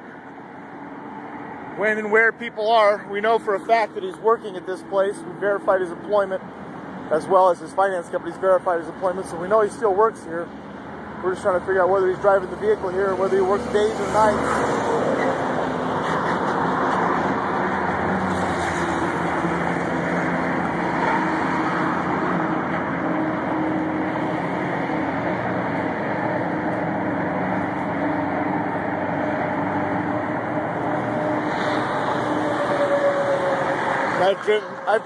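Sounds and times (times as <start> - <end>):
freeway traffic rushing: 0.0 - 35.0.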